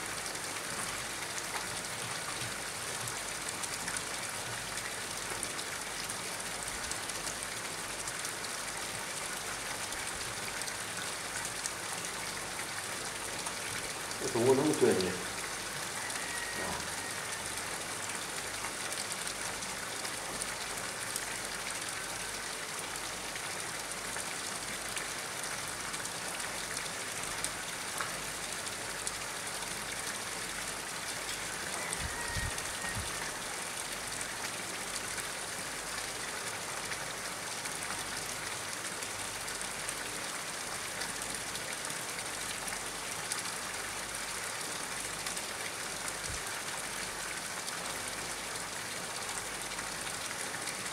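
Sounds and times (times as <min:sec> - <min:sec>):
water falling onto pond: 0:00.0 - 0:50.9.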